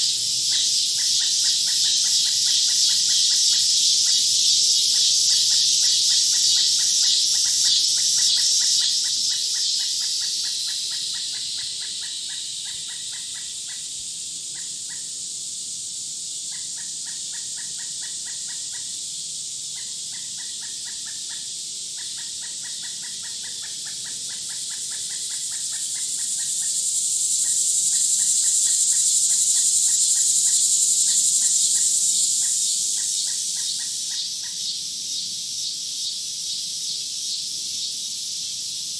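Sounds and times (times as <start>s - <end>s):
high loud insect buzz: 0.0s - 38.9s.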